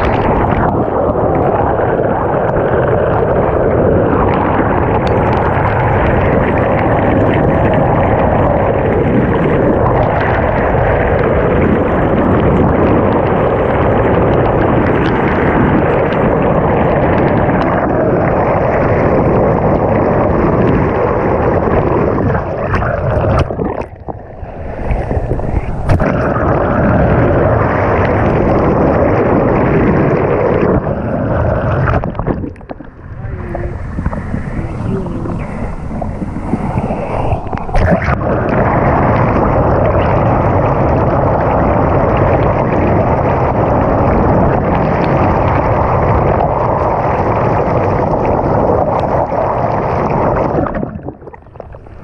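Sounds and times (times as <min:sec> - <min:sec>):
water rushing underwater: 0:00.0 - 0:52.0.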